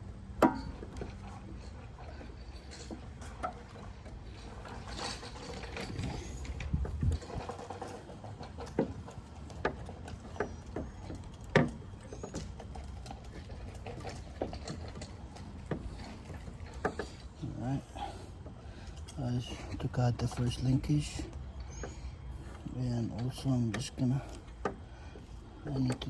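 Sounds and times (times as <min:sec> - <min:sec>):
hand tools clicking and knocking: 0:00.1 - 0:26.0.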